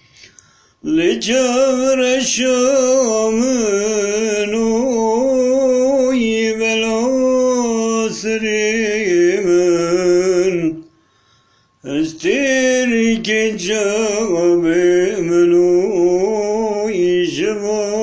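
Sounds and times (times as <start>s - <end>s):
man singing unaccompanied: 0.8s - 10.9s, 11.8s - 18.0s.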